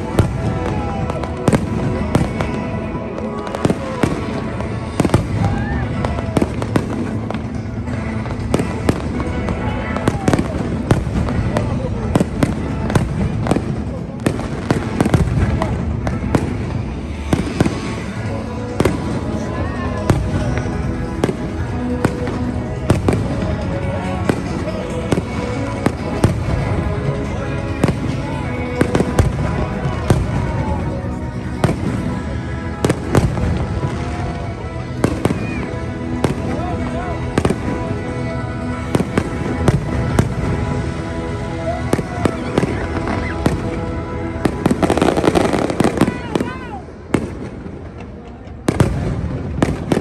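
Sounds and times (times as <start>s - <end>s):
loud music: 0.0s - 47.9s
fireworks explosions rumbling: 0.0s - 50.0s
fireworks sharp cracks: 0.0s - 50.0s.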